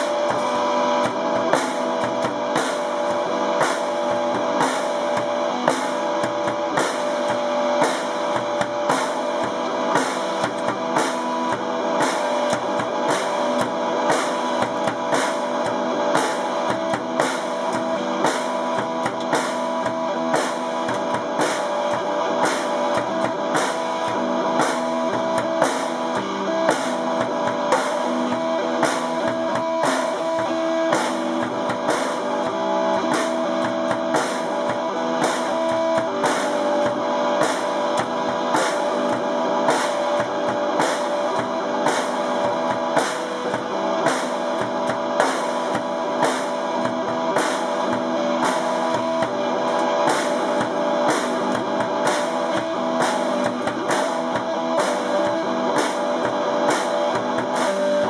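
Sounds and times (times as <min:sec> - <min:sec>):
drum beat: 0:00.0 - 0:58.0.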